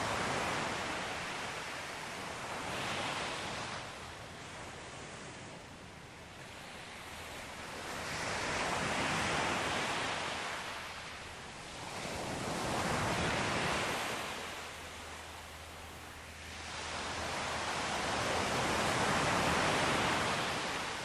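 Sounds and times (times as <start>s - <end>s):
ocean waves washing onto shore: 0.0s - 21.0s.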